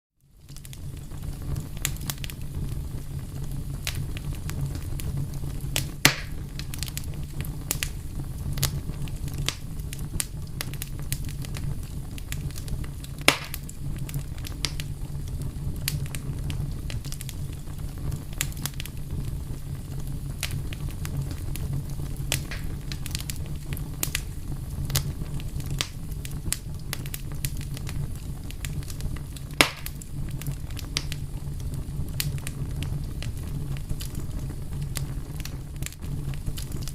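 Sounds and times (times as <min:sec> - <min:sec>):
fire crackling: 0:00.2 - 0:36.9
fire pops: 0:00.3 - 0:36.9.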